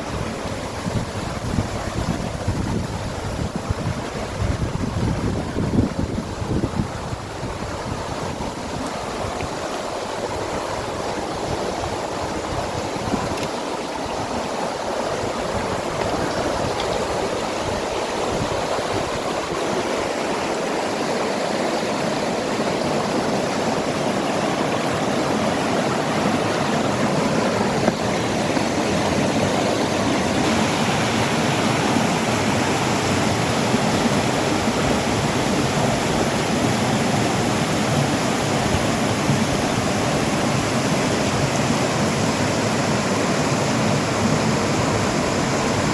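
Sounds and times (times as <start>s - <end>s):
river water rushing: 0.0s - 45.9s
strong wind: 0.0s - 45.9s.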